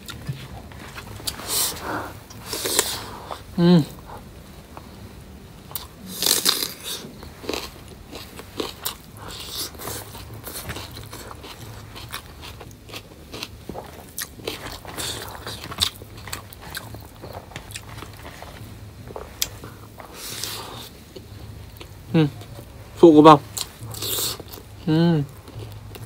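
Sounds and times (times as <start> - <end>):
person chewing: 0.0 - 5.0, 5.7 - 26.0.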